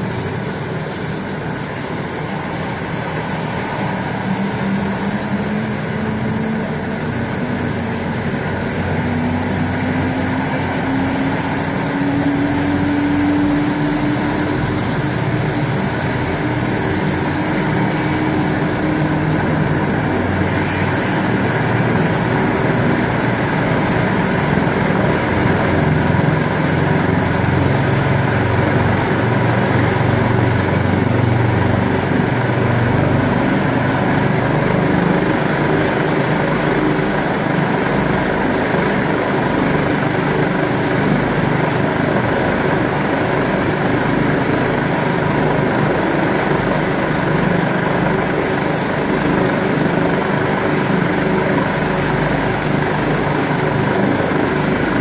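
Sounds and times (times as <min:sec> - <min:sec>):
helicopter rotor and engine noise: 0:00.0 - 0:55.0
helicopter turbine whine: 0:00.0 - 0:55.0.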